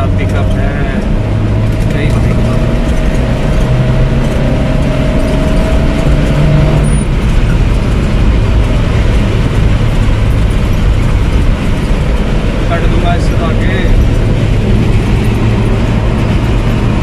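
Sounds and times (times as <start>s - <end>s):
engine running hard: 0.0s - 17.0s
road noise: 0.0s - 17.0s.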